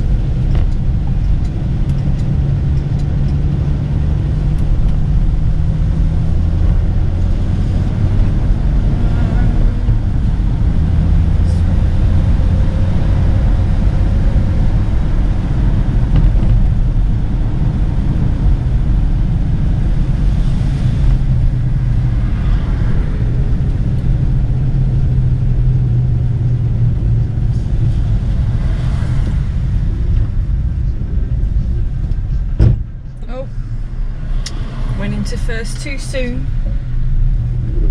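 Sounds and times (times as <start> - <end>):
car engine running: 0.0 - 37.9
road rumble: 0.0 - 37.9.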